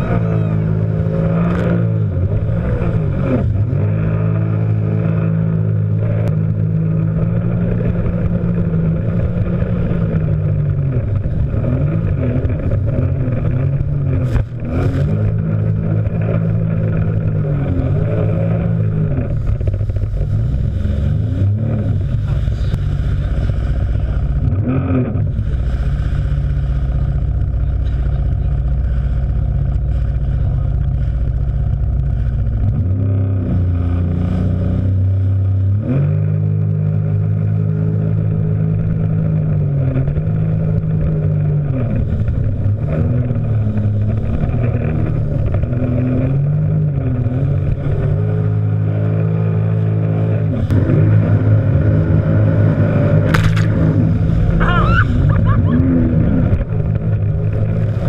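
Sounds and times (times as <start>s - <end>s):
jet ski engine running: 0.0s - 58.0s
water splashing against hull: 0.2s - 58.0s.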